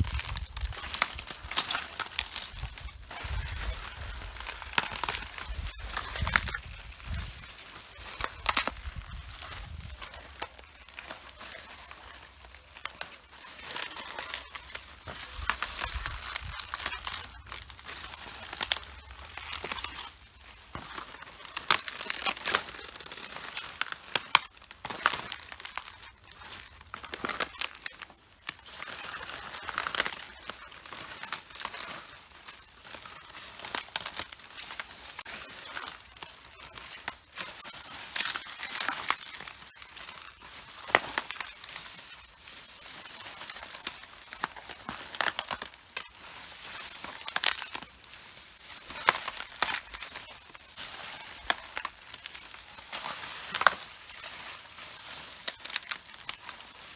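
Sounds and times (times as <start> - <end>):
footsteps crunching cabbage leaves: 0.0 - 56.9.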